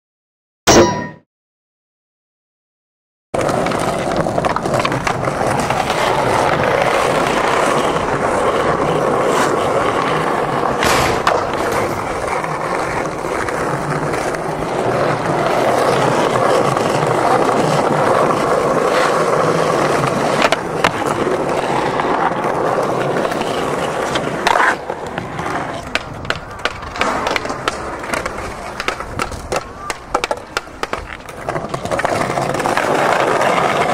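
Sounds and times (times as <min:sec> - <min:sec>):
skateboard clacks: 0:03.4 - 0:33.9
skateboard wheels rolling on stone: 0:03.4 - 0:33.9.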